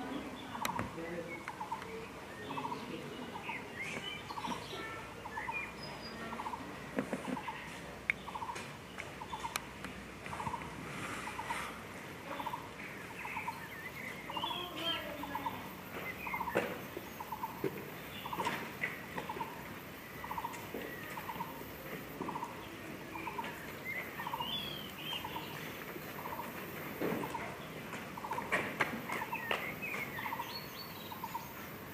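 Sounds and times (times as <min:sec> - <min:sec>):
bird chirping: 0:00.0 - 0:31.9.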